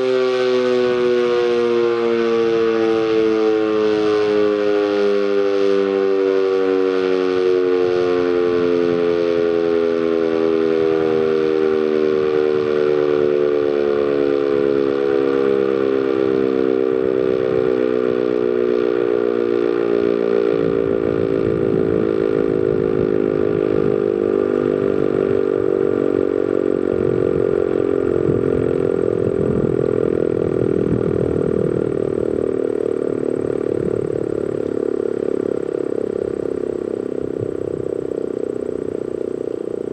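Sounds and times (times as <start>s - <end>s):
warning siren winding down: 0.0s - 39.9s.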